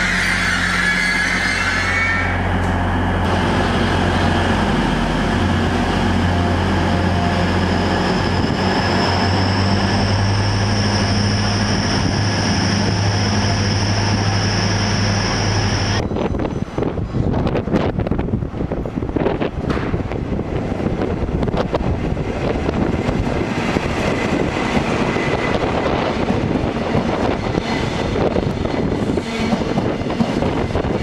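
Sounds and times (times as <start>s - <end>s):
diesel train engines droning: 0.0s - 31.0s.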